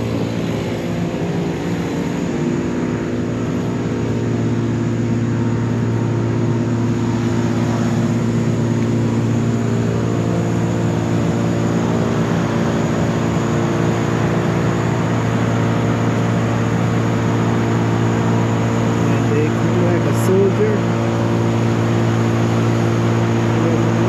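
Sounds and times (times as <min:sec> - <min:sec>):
heavy machinery engine drone: 0:00.0 - 0:24.0.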